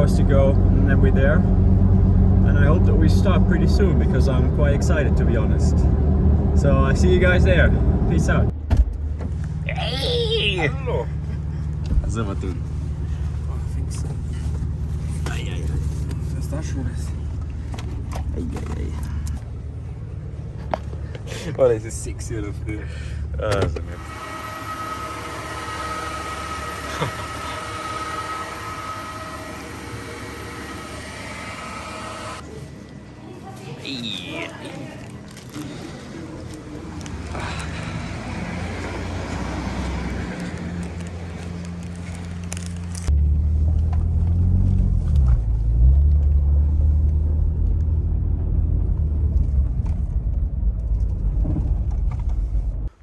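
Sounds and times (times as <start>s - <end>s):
vehicle running noise from inside: 0.0s - 53.0s.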